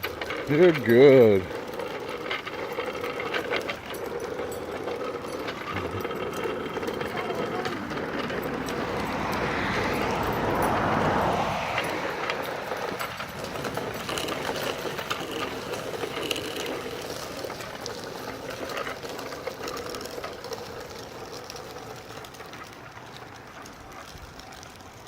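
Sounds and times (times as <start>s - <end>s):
bicycle clicking and rattling: 0.0s - 25.0s.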